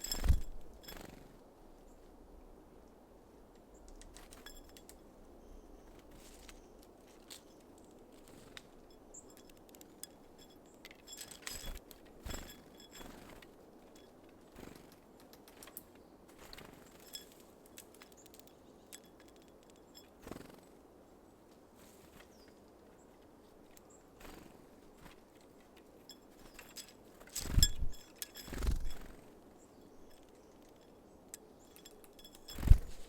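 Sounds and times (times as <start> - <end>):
birds pecking seeds: 0.0 - 1.2, 6.0 - 20.5, 21.8 - 33.0.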